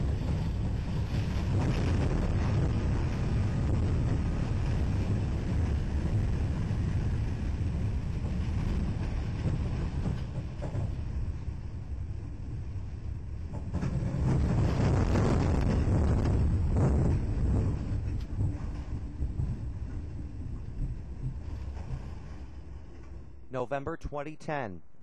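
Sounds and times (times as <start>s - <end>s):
storm wind rushing: 0.0s - 23.5s
freight train rumble: 0.0s - 24.6s.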